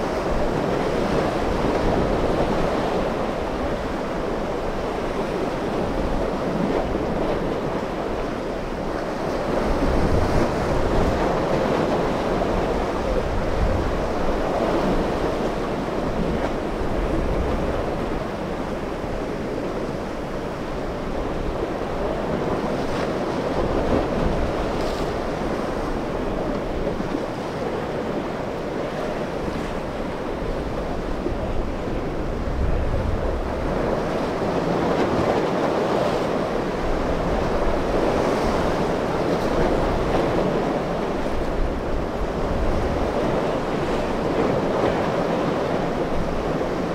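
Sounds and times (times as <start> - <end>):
ocean surf breaking: 0.0 - 46.9
wind blowing across microphone: 0.0 - 46.9.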